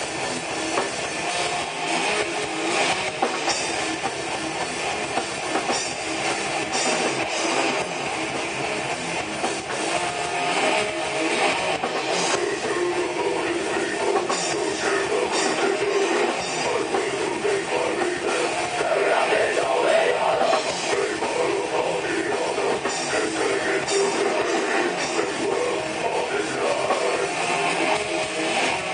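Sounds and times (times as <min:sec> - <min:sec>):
distorted electric guitars: 0:00.0 - 0:28.9
drum kit: 0:00.0 - 0:28.9.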